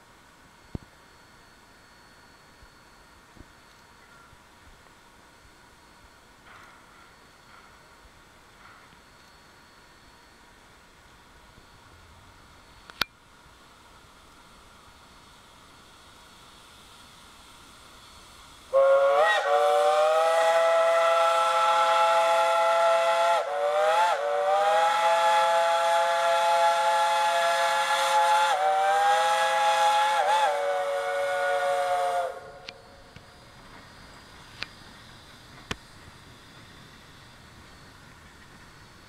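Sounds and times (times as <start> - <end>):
steam locomotive chime whistle: 0.5 - 13.0, 18.0 - 39.0.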